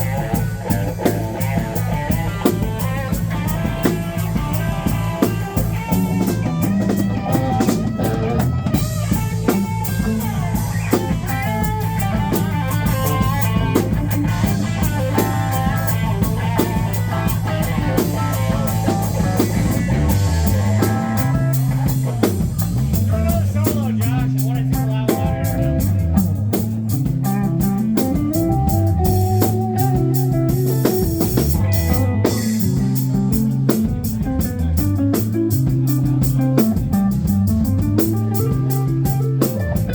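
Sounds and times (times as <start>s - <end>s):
low bass notes: 0.0s - 39.9s
rock band playing: 0.0s - 39.9s.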